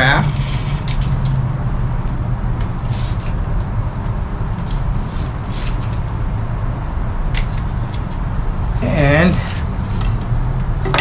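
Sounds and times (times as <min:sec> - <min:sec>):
cord rustling and scraping on pole: 0:00.0 - 0:06.4, 0:07.3 - 0:11.0
steady low rumble: 0:00.0 - 0:11.0.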